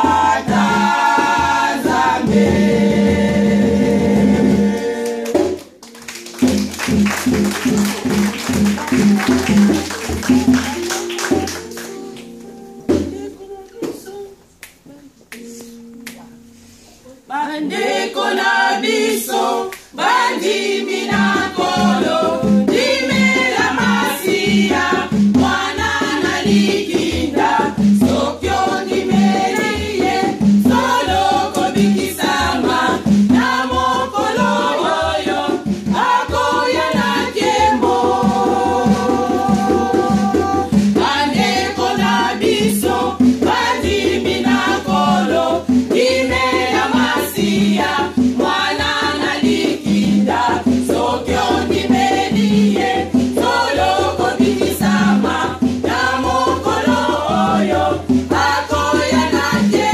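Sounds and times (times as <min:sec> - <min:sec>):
women's choir singing: 0:00.0 - 0:05.8, 0:17.2 - 0:59.9.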